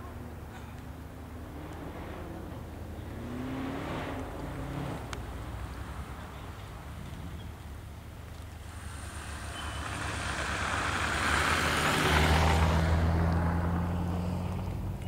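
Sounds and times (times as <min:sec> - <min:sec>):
tyres on snow: 0:00.4 - 0:15.0
car engine driving by: 0:01.0 - 0:07.6, 0:08.3 - 0:15.0.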